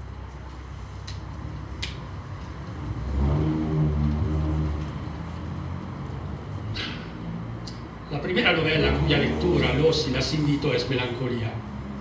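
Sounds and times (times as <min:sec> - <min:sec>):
vehicle engine passing by: 0:01.4 - 0:12.0.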